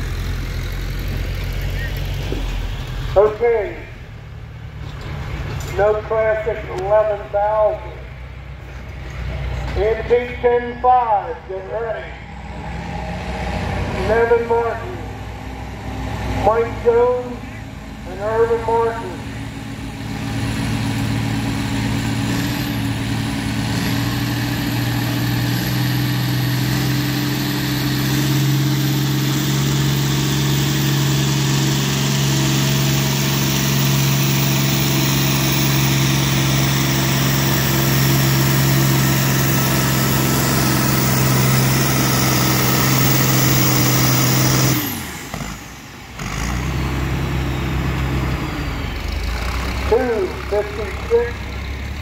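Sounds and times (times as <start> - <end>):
diesel tractor engine running hard: 0.0 - 52.0.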